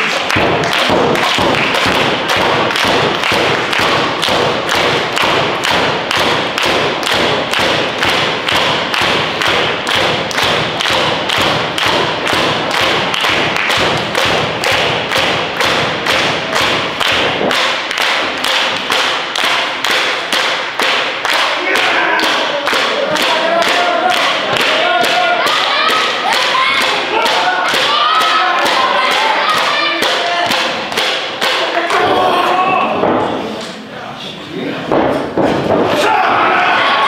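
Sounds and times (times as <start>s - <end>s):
crowd clapping in unison: 0.0s - 32.1s.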